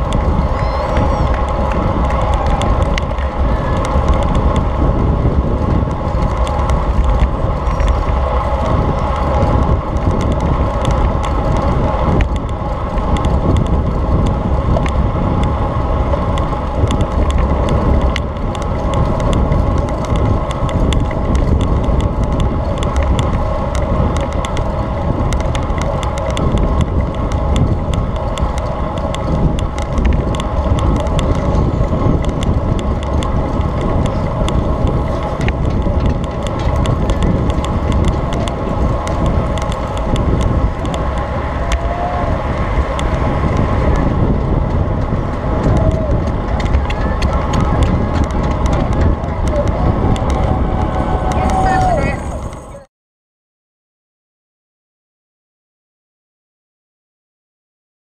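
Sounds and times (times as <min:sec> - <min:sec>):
bicycle tyre road noise: 0:00.0 - 0:52.9
wind rumble on microphone: 0:00.0 - 0:52.9.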